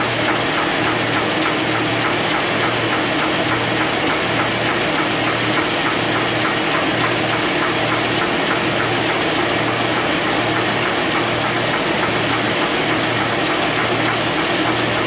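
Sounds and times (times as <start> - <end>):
paper machine clattering: 0.0 - 15.0.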